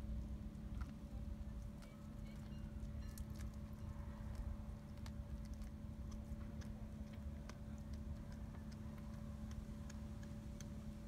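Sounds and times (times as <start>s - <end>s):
cat crunching bones: 0.0s - 11.0s
steady low hum: 0.0s - 11.0s.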